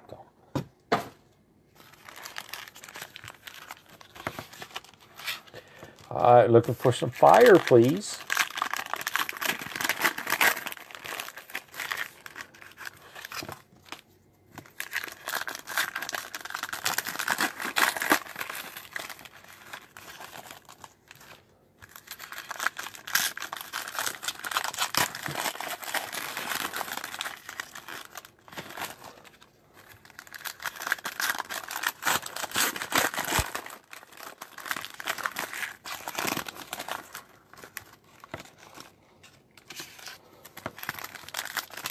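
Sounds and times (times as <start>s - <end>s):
foil wrappers tearing and crinkling: 1.8s - 41.9s.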